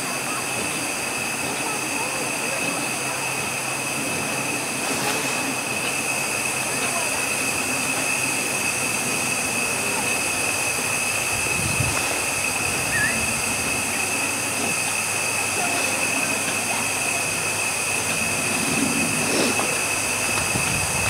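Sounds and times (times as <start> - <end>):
people talking faintly: 0.0 - 20.9
steam locomotive hissing: 0.0 - 21.0.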